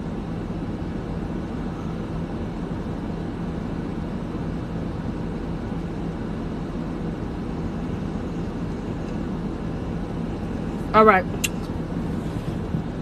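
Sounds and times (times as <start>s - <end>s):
car engine idling drone: 0.0s - 13.0s.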